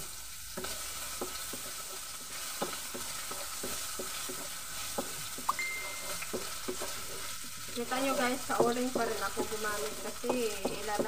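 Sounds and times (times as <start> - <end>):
food sizzling in a wok: 0.0 - 11.0
spatula scraping and tapping pan: 0.0 - 11.0.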